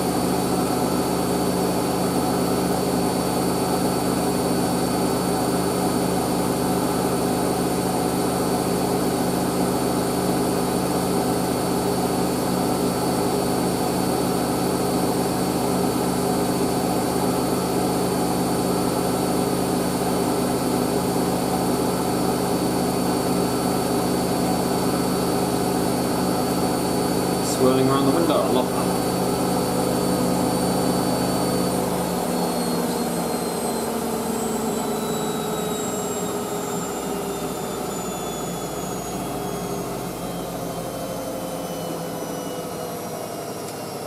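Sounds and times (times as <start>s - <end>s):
washing machine spinning: 0.0s - 44.0s.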